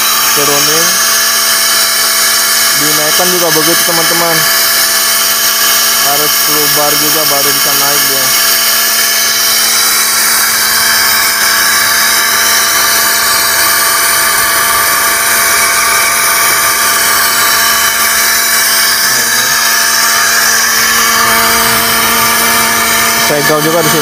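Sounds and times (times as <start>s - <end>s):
pneumatic winch whining and hissing: 0.0s - 24.0s.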